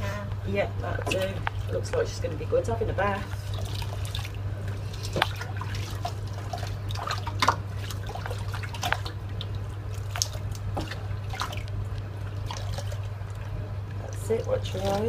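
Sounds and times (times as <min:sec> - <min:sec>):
steady low hum: 0:00.0 - 0:15.0
water splashing and dripping in sink: 0:00.9 - 0:02.3, 0:03.0 - 0:15.0.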